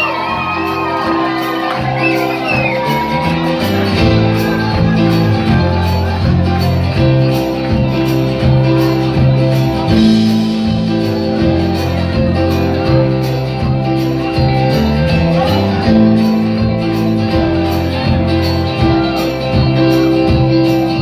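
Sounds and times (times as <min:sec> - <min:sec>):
bass: 0:00.0 - 0:21.0
drums: 0:00.0 - 0:21.0
keyboard: 0:00.0 - 0:21.0
strummed acoustic guitars: 0:00.0 - 0:21.0.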